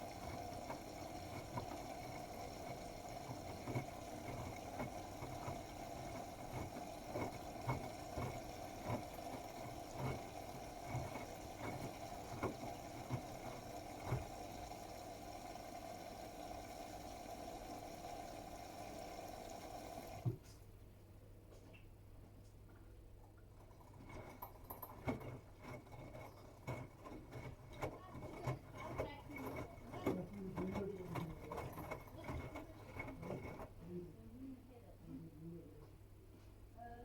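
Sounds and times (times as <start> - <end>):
washing machine water sloshing: 0.0 - 20.5, 23.3 - 33.8
washing machine hum: 0.0 - 20.9, 22.5 - 37.0.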